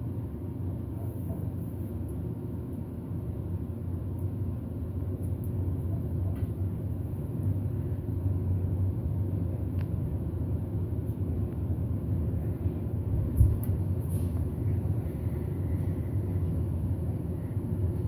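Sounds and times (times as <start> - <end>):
elevator rumble: 0.0 - 18.0.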